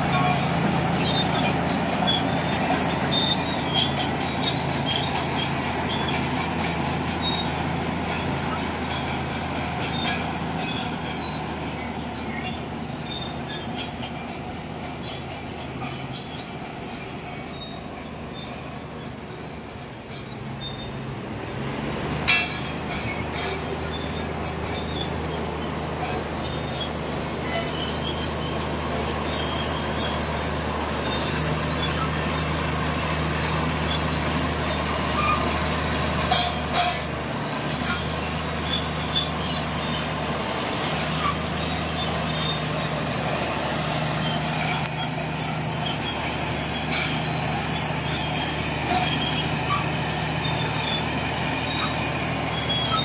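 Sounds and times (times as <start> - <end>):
bulldozer diesel engine drone: 0.0 - 53.0
high metallic squeal: 0.0 - 53.0.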